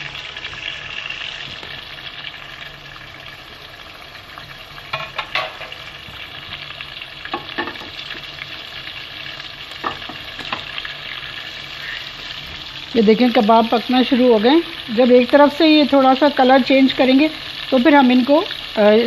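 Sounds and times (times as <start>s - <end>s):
kebabs sizzling in hot oil: 0.0s - 19.0s.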